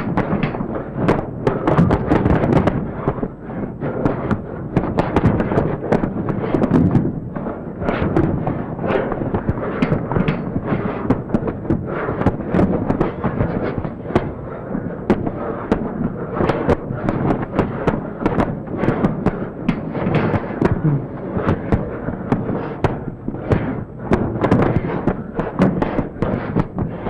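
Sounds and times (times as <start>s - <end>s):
crackling clatter with clicks: 0.0s - 27.0s.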